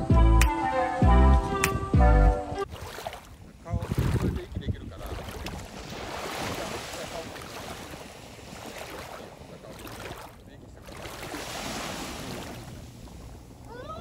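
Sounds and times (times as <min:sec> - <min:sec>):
small waves lapping at shore: 0:02.7 - 0:14.0.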